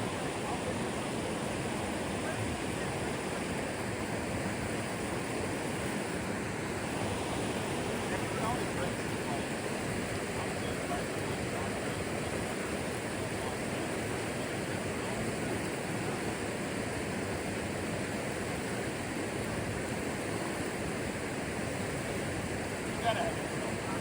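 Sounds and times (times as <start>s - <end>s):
river rapids rushing: 0.0s - 24.0s.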